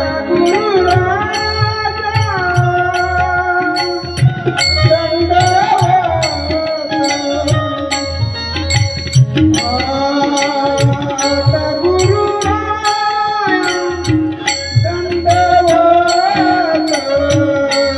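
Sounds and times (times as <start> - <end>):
hand drum beating: 0.0 - 17.9
small cymbals clinking: 0.4 - 17.9.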